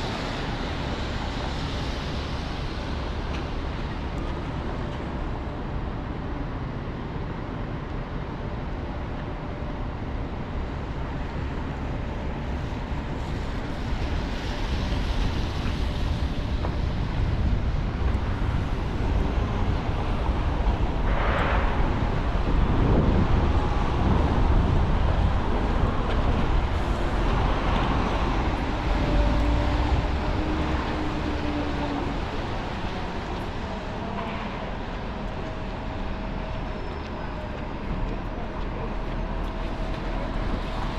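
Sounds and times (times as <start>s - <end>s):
tyres hissing on wet pavement: 0.0s - 5.2s, 11.2s - 40.9s
traffic rumbling on wet roads: 0.0s - 40.9s.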